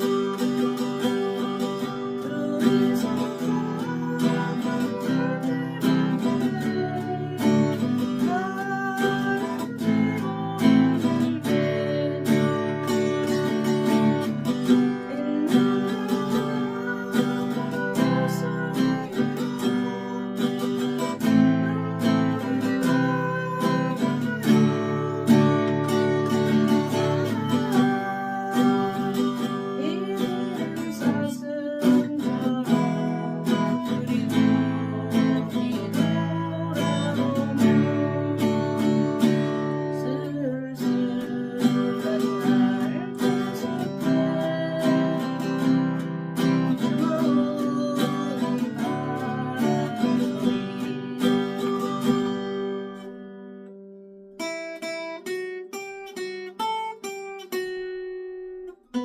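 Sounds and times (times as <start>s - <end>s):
acoustic guitar strumming and picking: 0.0s - 59.0s.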